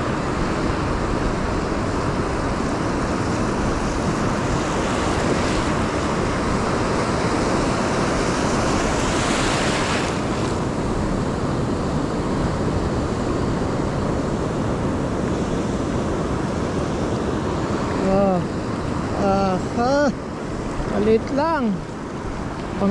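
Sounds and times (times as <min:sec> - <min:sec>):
surf washing onto beach: 0:00.0 - 0:22.9.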